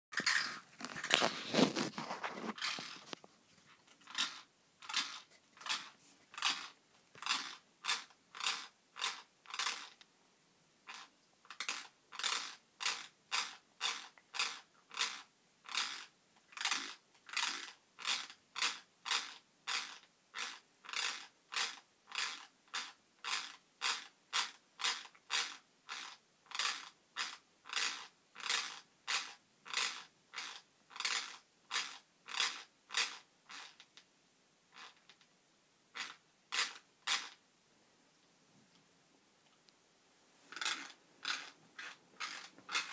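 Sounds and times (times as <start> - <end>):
teeth grinding: 1.0 - 3.2, 4.0 - 10.0, 10.9 - 33.8, 36.0 - 37.4, 40.5 - 42.9.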